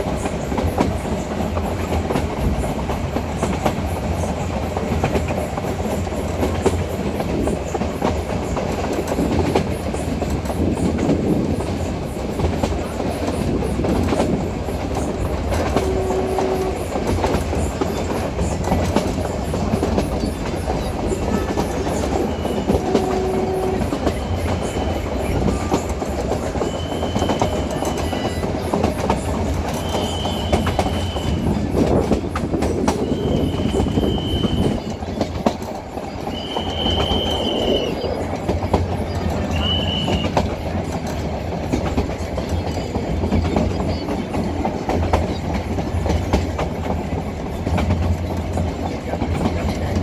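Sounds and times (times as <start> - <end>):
train rumbling along track: 0.0 - 50.0
wheels clattering over rail joints: 0.0 - 50.0.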